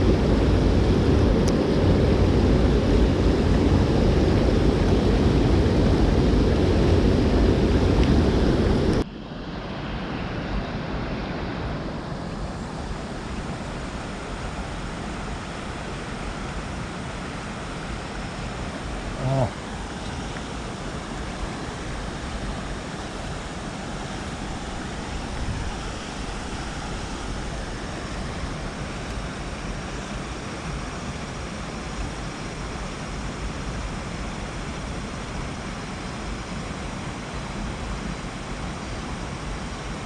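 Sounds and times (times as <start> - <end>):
water rushing: 0.0 - 40.0.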